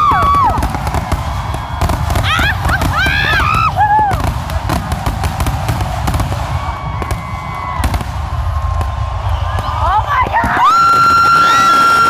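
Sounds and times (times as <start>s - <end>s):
fireworks booms and crackles: 0.0s - 12.0s.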